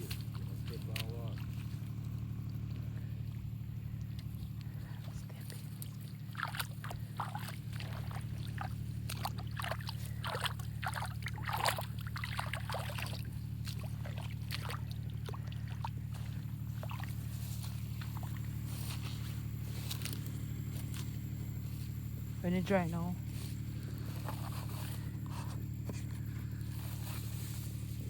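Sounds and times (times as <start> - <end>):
steady low hum: 0.0 - 28.0
water sloshing and splashing: 0.0 - 28.0.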